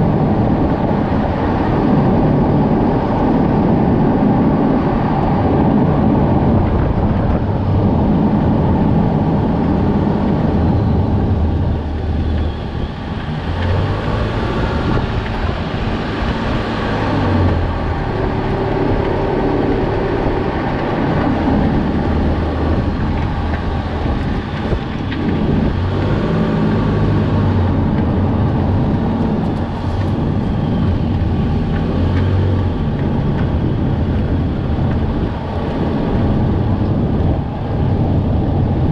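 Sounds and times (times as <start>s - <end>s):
car engine running: 5.4s - 38.5s.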